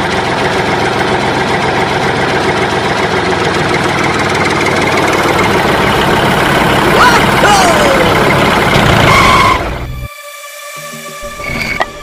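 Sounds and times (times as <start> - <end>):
tractor engine running: 0.0 - 10.1.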